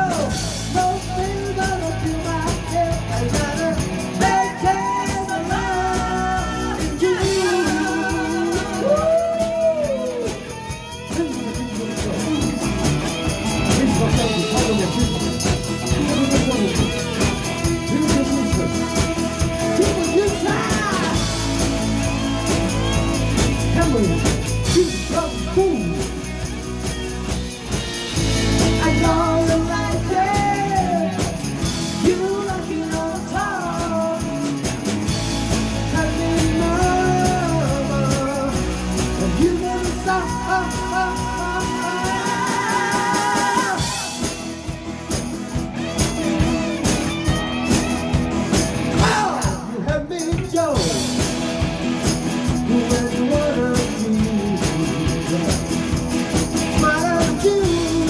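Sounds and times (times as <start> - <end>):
lead vocal singing: 0.0 - 26.7, 28.2 - 44.8, 48.9 - 51.7, 52.4 - 58.0
rock band playing live: 0.0 - 58.0.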